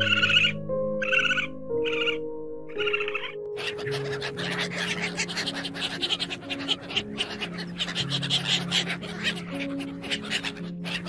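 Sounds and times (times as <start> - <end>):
ducks quacking: 0.0 - 11.0
soft background music: 0.0 - 11.0.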